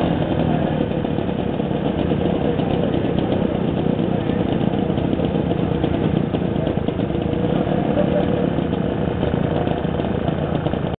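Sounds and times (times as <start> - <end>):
motorcycle two-stroke engine idling: 0.0 - 11.0.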